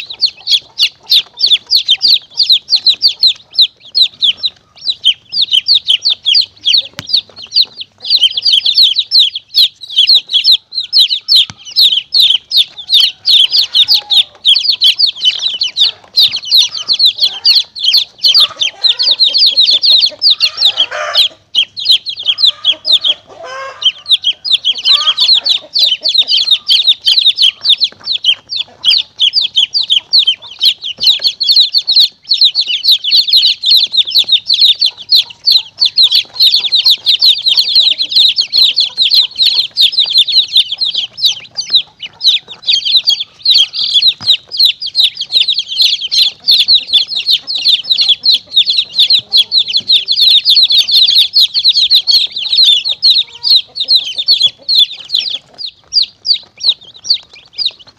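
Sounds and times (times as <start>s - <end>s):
baby chicks peeping: 0.0s - 57.9s.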